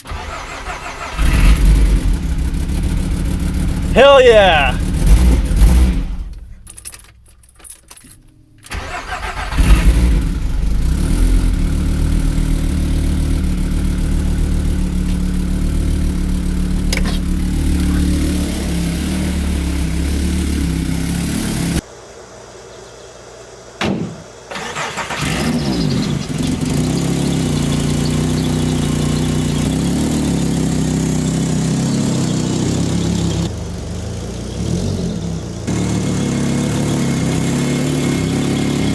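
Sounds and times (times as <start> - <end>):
car engine running: 0.0 - 7.6, 8.3 - 21.8, 25.1 - 38.9.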